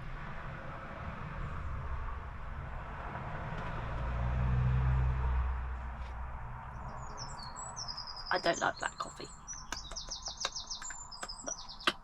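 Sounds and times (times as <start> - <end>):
passing motor vehicle rumble: 0.0 - 12.0.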